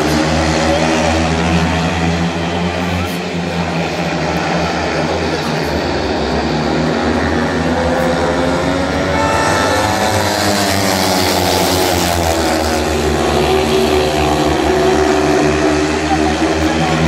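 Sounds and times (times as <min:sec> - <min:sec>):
motorcycles racing engines revving: 0:00.0 - 0:17.0.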